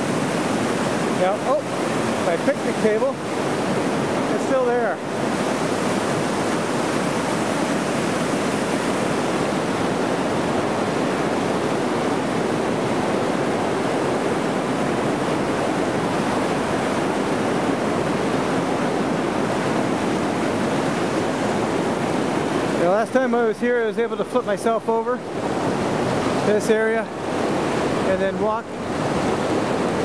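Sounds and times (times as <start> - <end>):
river rushing over rapids: 0.0 - 30.0.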